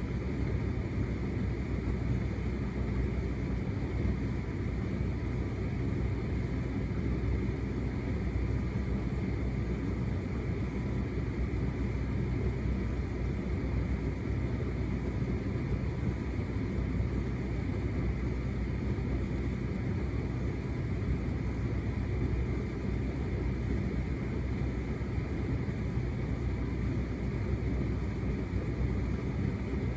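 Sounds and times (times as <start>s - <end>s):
tumble dryer rumbling: 0.0s - 29.9s.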